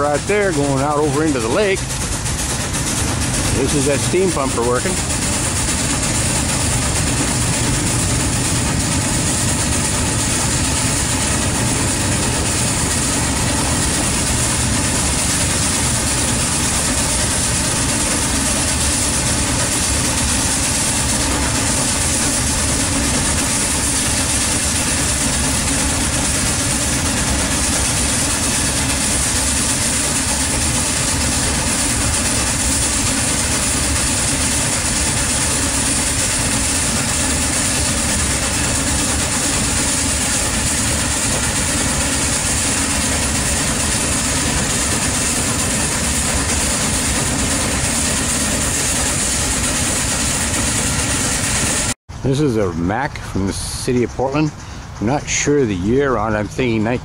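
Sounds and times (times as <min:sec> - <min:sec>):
steam fire engine pump running: 0:00.0 - 0:57.0.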